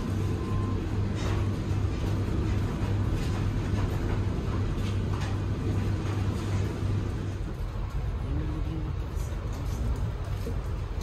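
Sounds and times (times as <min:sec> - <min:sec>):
train coach hum and rumble: 0:00.0 - 0:11.0.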